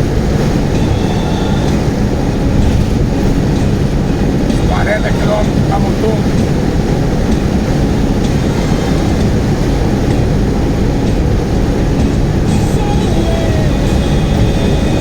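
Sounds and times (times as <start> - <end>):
engine and tyre rumble: 0.0 - 15.0
road and wind noise: 0.0 - 15.0.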